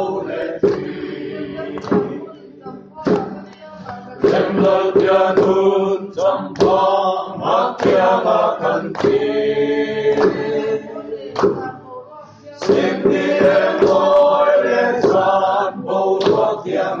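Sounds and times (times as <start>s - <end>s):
group singing together: 0.0s - 17.0s
hand claps: 0.3s - 2.4s, 3.0s - 11.8s, 12.6s - 15.4s, 16.2s - 16.7s.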